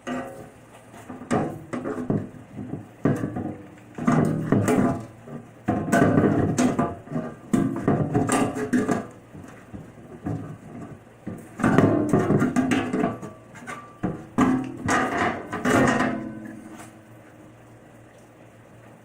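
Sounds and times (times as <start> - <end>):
metal knocking and clattering: 0.0 - 16.7.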